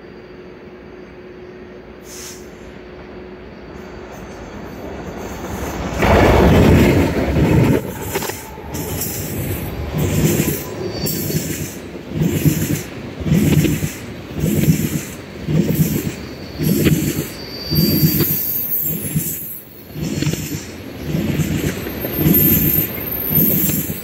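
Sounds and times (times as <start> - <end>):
diesel locomotives passing: 0.0 - 24.0
rumbling train wheels: 0.0 - 24.0
train wheel squeal: 0.0 - 24.0.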